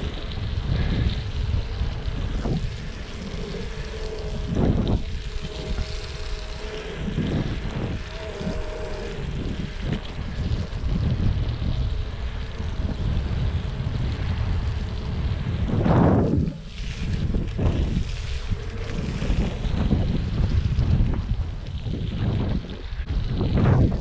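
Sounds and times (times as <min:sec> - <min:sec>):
electric motor whine: 0:00.0 - 0:23.1
low rumble: 0:00.0 - 0:24.0
wind gusts on microphone: 0:00.0 - 0:24.0.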